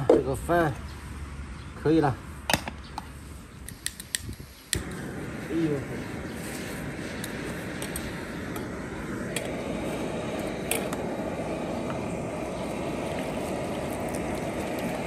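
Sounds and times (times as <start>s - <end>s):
gas stove hissing: 0.0s - 15.0s.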